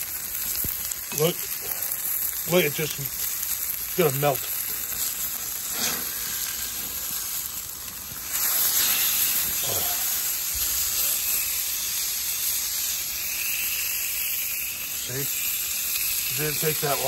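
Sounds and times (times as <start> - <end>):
steak sizzling on a grill: 0.0 - 17.0.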